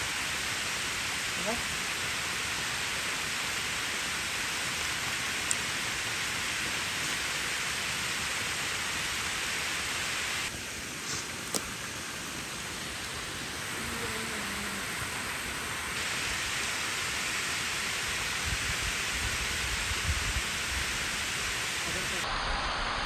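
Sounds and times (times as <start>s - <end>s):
water rushing down spillway: 0.0s - 22.3s.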